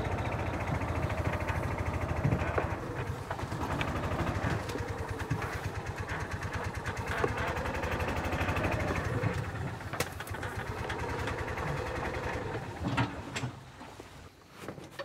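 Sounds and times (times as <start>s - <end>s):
golf cart engine putter: 0.0s - 13.6s.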